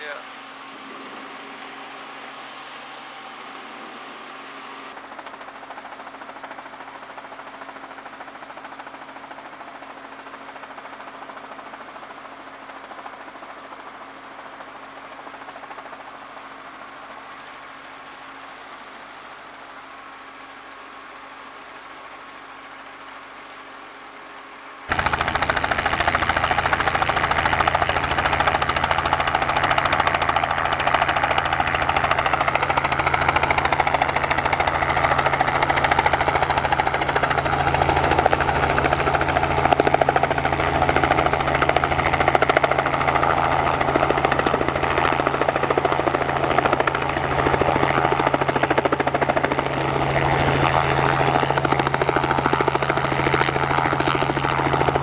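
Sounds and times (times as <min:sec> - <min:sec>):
faint muffled hum: 0:00.0 - 0:55.0
helicopter engine and rotor: 0:00.0 - 0:55.0.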